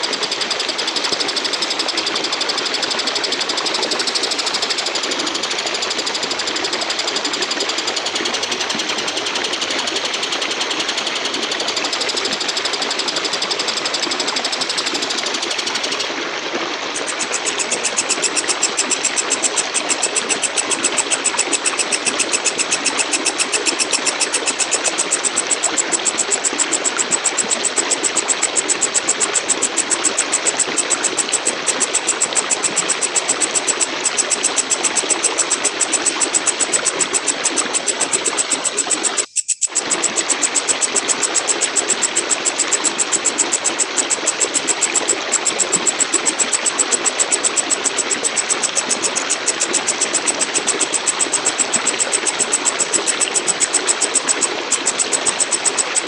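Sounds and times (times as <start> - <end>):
katydid stridulating trill: 0.0 - 16.1, 16.9 - 56.0.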